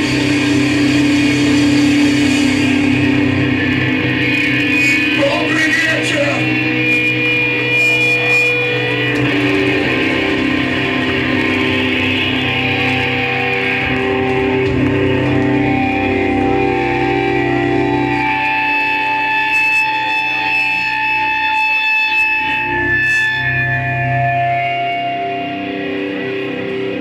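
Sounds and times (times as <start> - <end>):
electric guitar with echo: 0.0 - 27.0.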